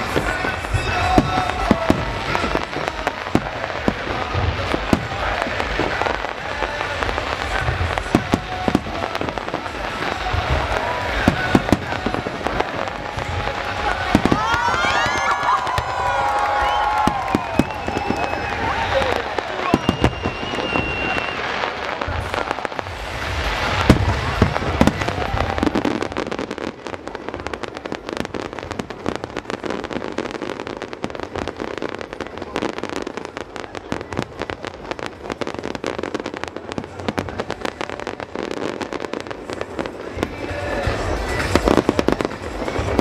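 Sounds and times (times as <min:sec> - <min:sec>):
fireworks booming: 0:00.0 - 0:43.0
fireworks crackling: 0:00.0 - 0:43.0.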